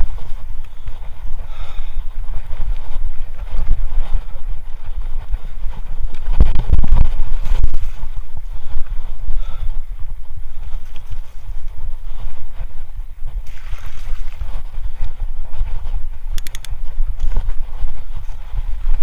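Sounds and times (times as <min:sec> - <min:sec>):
bike rumbling over rough trail: 0:00.0 - 0:19.0
wind buffeting microphone: 0:00.0 - 0:19.0.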